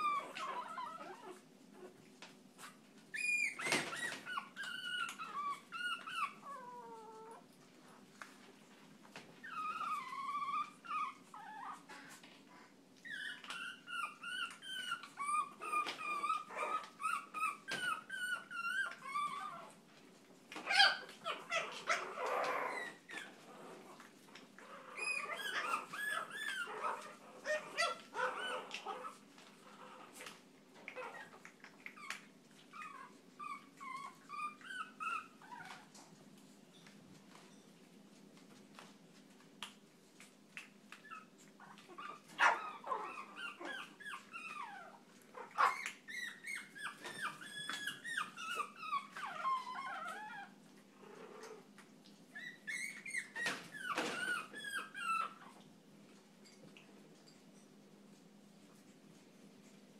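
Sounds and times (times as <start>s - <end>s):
puppies yipping and whining: 0.0s - 8.1s, 9.2s - 37.8s, 40.6s - 55.7s.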